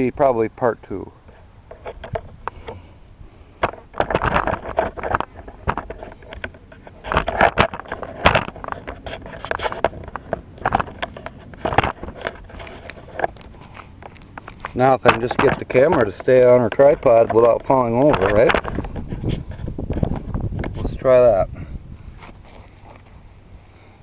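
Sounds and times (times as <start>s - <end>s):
small clicks and scrapes: 1.2s - 2.9s, 3.5s - 23.2s.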